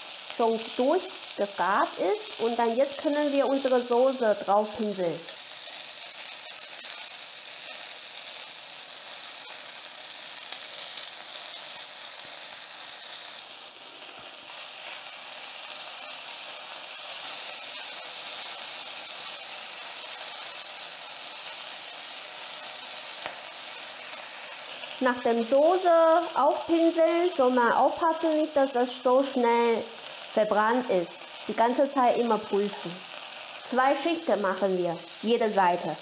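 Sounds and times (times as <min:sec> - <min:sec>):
skewers sizzling on a grill: 0:00.0 - 0:36.0.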